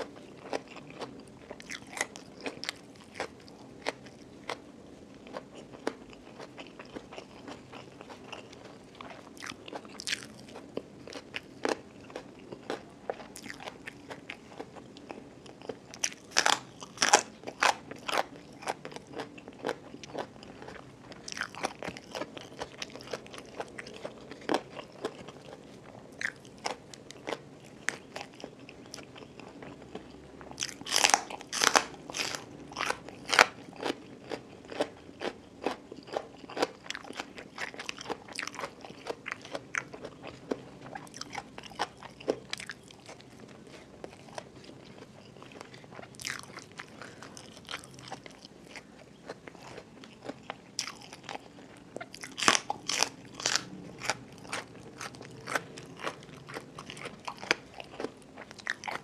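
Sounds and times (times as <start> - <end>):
crunching raw vegetables: 0.0 - 59.0.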